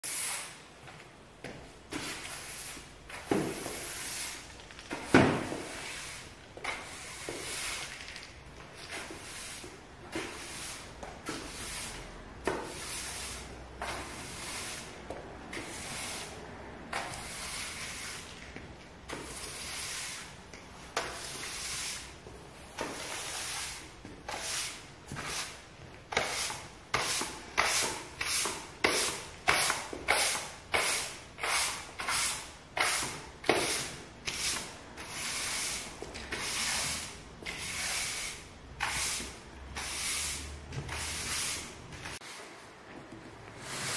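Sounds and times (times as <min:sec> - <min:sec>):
broom sweeping wooden floor: 0:00.0 - 0:00.6, 0:01.4 - 0:43.9.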